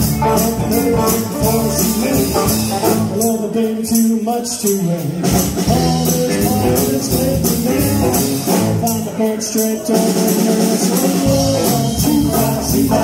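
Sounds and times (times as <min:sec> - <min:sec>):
electric guitars: 0:00.0 - 0:03.7, 0:04.8 - 0:13.0
bass guitar: 0:00.0 - 0:13.0
drum kit: 0:00.0 - 0:13.0.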